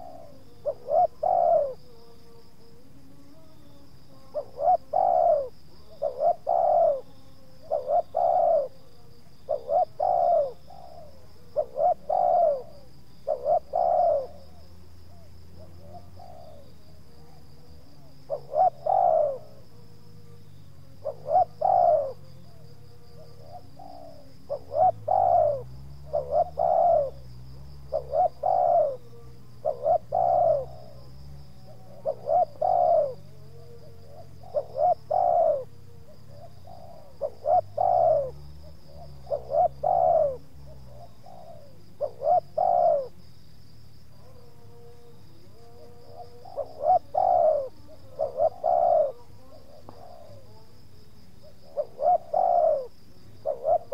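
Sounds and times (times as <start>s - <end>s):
dove cooing: 0.0s - 43.3s, 44.1s - 50.8s, 51.4s - 53.9s.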